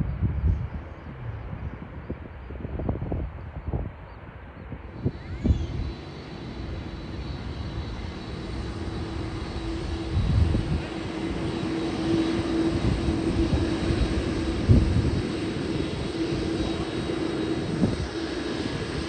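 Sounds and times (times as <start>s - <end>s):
jet engines droning: 0.0s - 19.0s
wind rumble on microphone: 0.0s - 19.0s.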